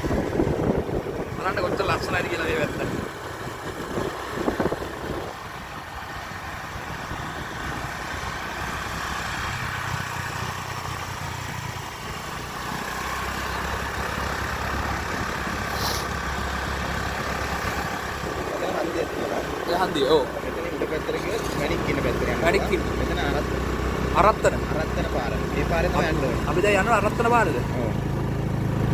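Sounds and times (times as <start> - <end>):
road noise: 0.0 - 28.9
vehicle engine humming: 0.0 - 28.9.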